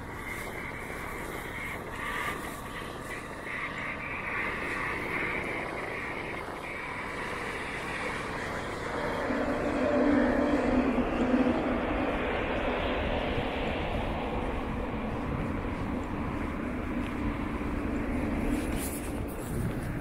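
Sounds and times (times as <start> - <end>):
city background rumble: 0.0 - 20.0.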